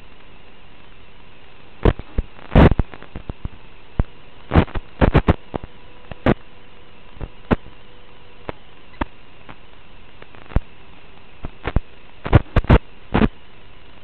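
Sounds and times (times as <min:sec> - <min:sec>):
steady hiss with faint hum: 0:00.0 - 0:14.0.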